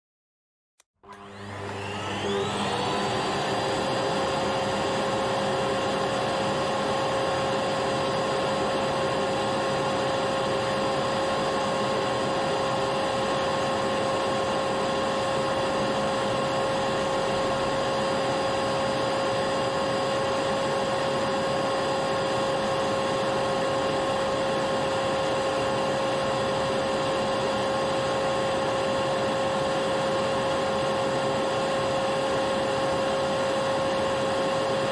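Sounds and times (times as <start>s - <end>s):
vacuum cleaner motor whining: 1.0s - 34.9s.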